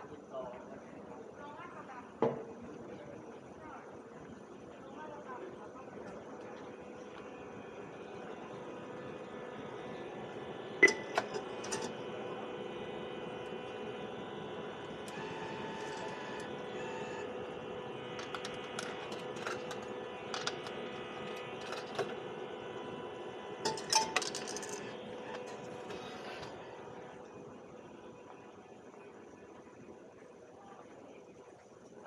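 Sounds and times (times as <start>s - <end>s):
steady tonal hum: 3.0s - 31.6s.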